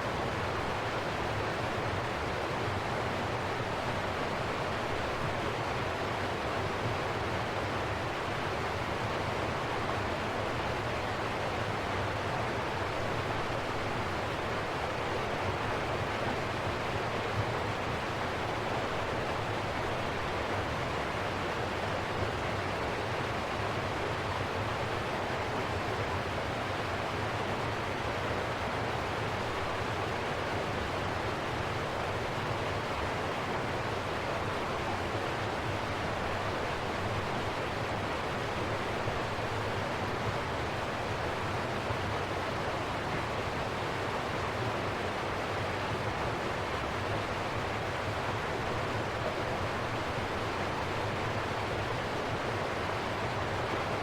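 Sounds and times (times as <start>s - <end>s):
river water rushing: 0.1s - 54.0s.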